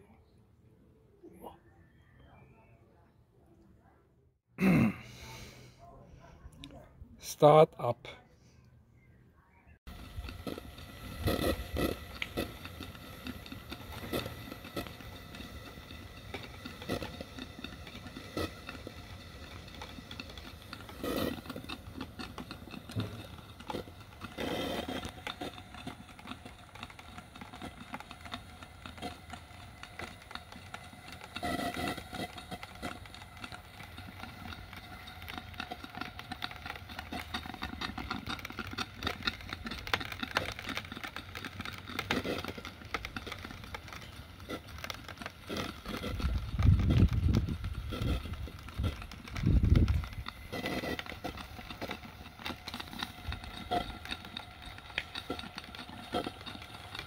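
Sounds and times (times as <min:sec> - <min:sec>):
model steam engine clattering: 0:09.9 - 0:57.0.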